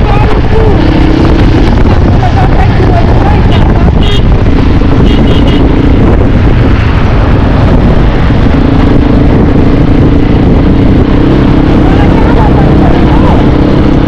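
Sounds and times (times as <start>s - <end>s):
dirt bike engine running: 0.0s - 14.0s
wind buffeting microphone: 0.0s - 14.0s.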